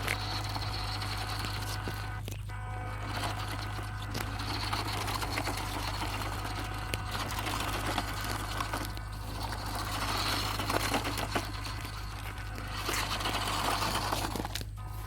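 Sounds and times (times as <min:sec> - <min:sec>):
toy electric motor whirring: 0:00.0 - 0:15.0
wheels crunching on rough ground: 0:00.0 - 0:15.0.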